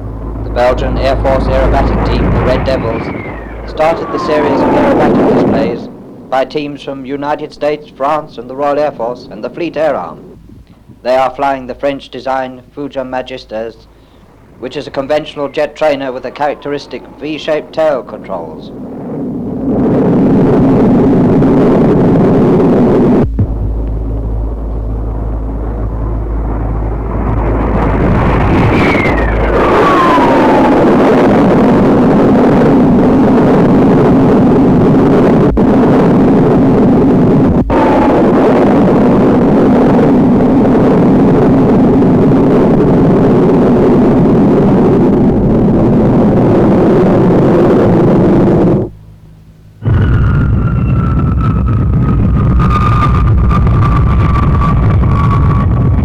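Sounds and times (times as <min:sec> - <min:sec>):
jet engines flying past: 0:00.0 - 0:56.0.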